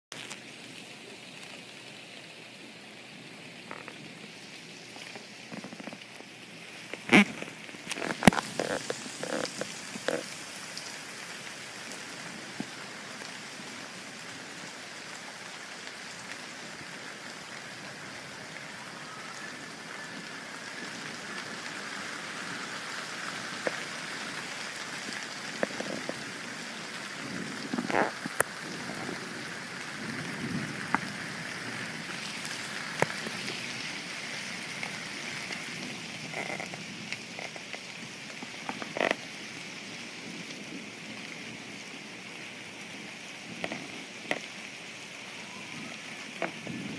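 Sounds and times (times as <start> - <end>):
rain falling: 0.1 - 46.9.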